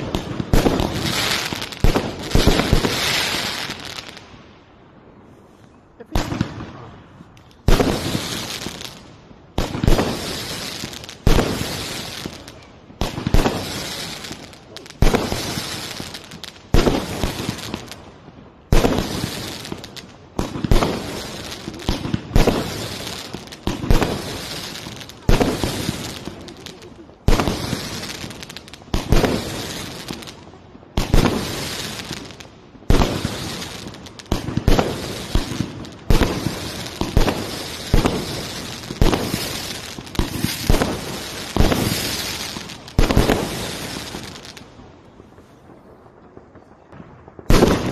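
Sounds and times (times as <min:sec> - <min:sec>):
crackling firework stars: 0:00.0 - 0:47.9.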